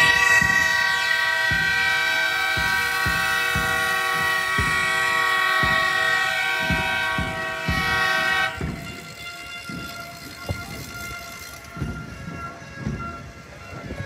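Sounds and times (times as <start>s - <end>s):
loud horn chord: 0.0s - 12.4s
dull thumps: 0.0s - 14.0s.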